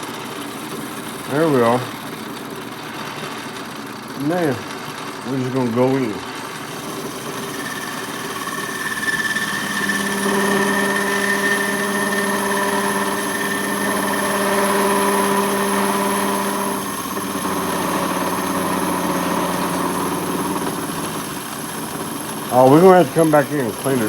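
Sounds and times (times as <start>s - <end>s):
metal lathe cutting: 0.0s - 24.0s.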